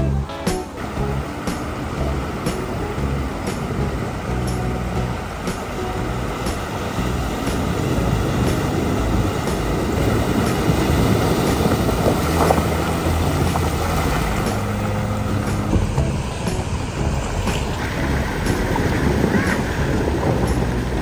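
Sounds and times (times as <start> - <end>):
car engine running: 0.0 - 21.0
water splashing from tyres: 0.7 - 21.0.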